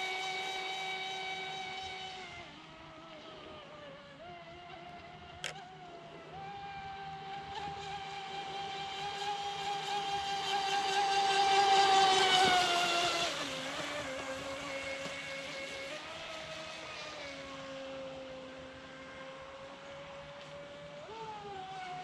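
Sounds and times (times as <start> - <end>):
electric boat motor whining: 0.0 - 22.0.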